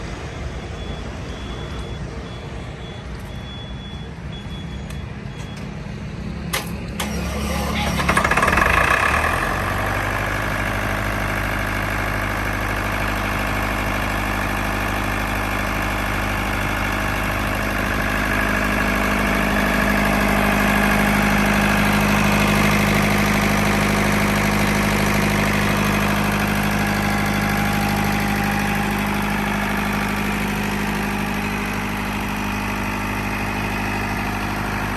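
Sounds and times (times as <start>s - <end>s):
diesel generator engine running: 0.0s - 34.9s
diesel engine cranking and catching: 6.4s - 34.9s.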